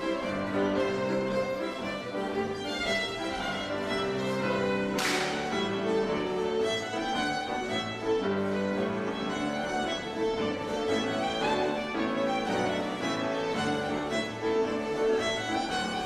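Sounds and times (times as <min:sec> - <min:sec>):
fiddles: 0:00.0 - 0:16.0.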